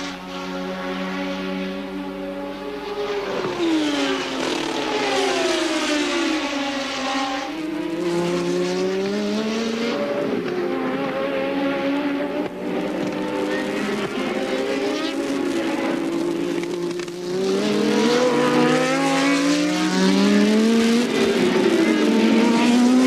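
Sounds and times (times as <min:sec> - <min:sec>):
race car engines at speed: 0:00.0 - 0:23.0.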